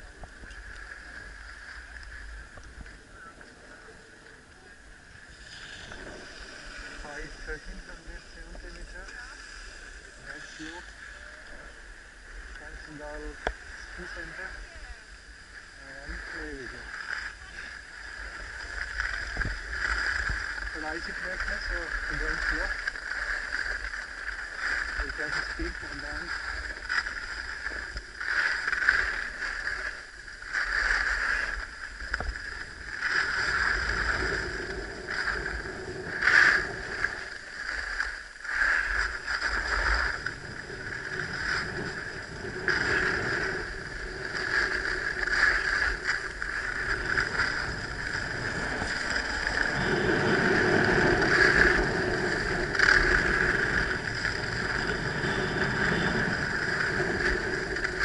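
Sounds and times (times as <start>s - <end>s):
skis scraping on packed snow: 0.0s - 58.0s
wind rumbling on microphone: 0.0s - 58.0s.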